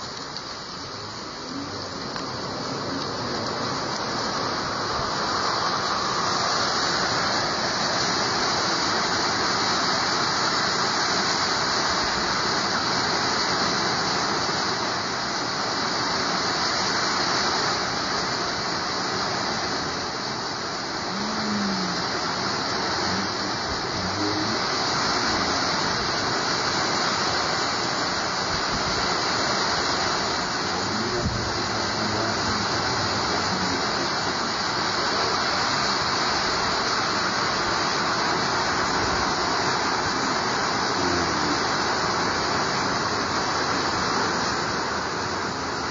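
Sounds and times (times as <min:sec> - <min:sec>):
gusting wind through trees: 0:00.0 - 0:45.9
heavy rain: 0:00.0 - 0:45.9.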